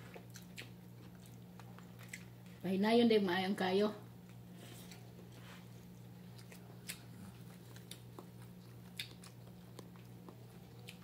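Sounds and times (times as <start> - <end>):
people chewing and biting: 0.0 - 2.6, 4.2 - 11.0
steady low hum: 0.0 - 11.0.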